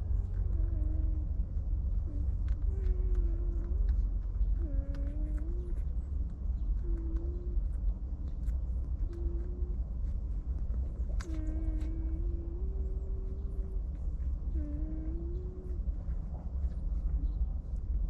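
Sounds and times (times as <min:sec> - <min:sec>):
steady low rumble: 0:00.0 - 0:18.0
faint ticks: 0:00.2 - 0:17.3.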